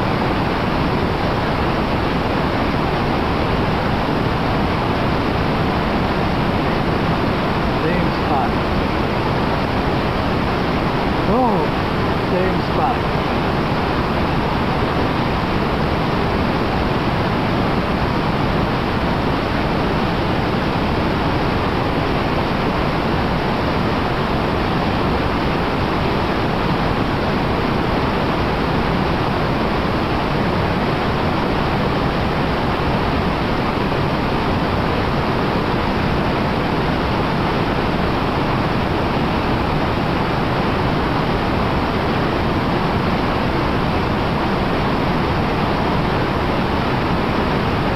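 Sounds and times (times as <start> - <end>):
whitewater rushing: 0.0 - 47.9.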